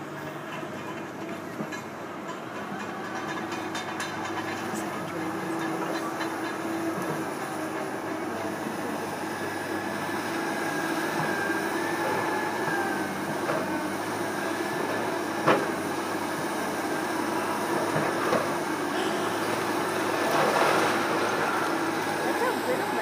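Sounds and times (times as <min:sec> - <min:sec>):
heavy mechanical rumble: 0:00.0 - 0:23.0.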